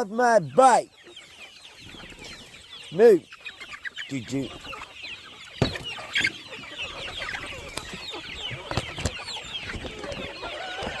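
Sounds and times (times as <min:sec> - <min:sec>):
chickens clucking and chirping: 0:00.0 - 0:11.0.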